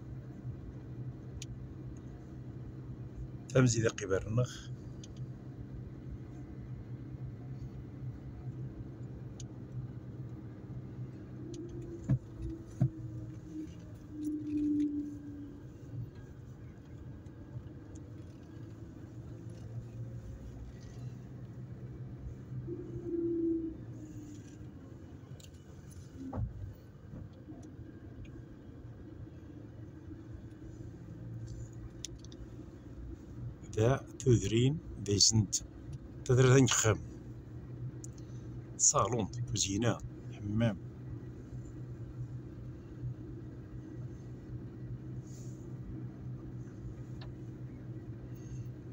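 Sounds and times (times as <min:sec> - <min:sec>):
car engine and road hum: 0:00.0 - 0:48.9.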